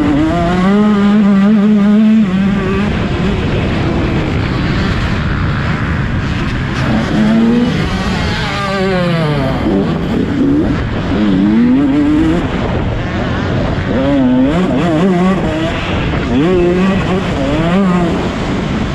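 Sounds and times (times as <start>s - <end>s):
motocross motorcycle engines revving: 0.0s - 18.9s.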